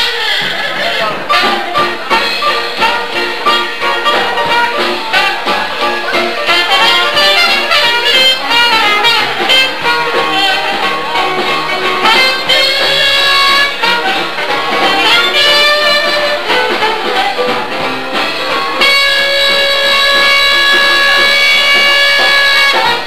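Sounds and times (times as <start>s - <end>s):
jazz band playing: 0.0s - 23.0s
trumpet playing lead: 0.0s - 23.0s.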